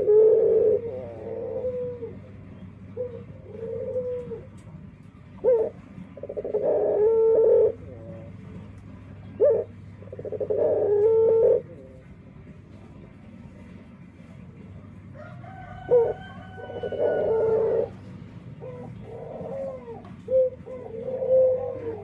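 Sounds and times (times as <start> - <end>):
dove cooing: 0.0 - 13.7, 14.7 - 22.0.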